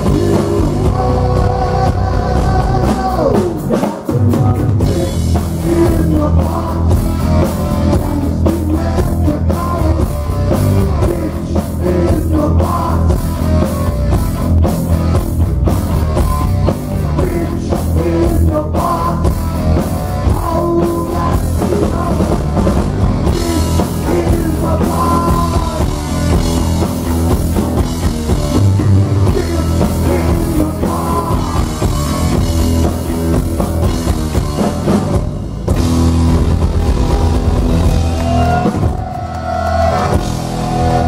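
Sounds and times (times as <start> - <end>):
distorted electric guitar: 0.0 - 41.0
heavy metal band playing live: 0.0 - 41.0
pounding drum kit: 0.0 - 41.0.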